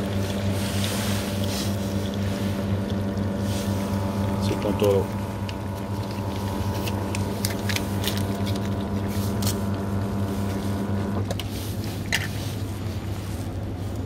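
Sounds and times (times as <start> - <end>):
coffee machine humming: 0.0 - 14.0.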